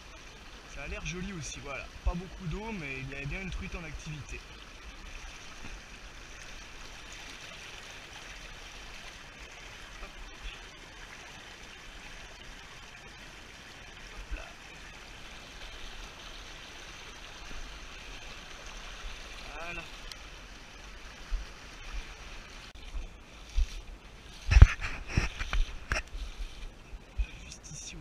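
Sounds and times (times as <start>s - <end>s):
stream rushing over stones: 0.0s - 28.0s.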